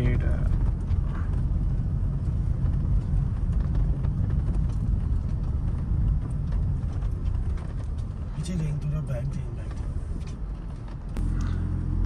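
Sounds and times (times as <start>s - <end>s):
car driving on dirt track: 0.0s - 12.0s.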